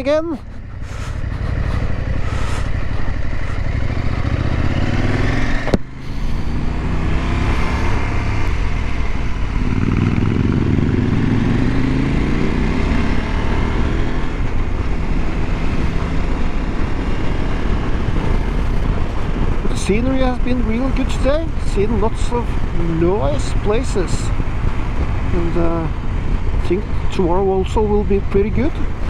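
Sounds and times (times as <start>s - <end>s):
motorcycle engine accelerating: 0.0s - 29.0s
wind noise on microphone: 0.4s - 27.1s.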